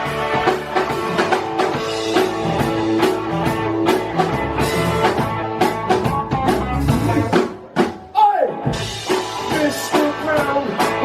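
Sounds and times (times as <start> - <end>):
electric guitar: 0.0 - 11.0
steady drum beat: 0.0 - 11.0.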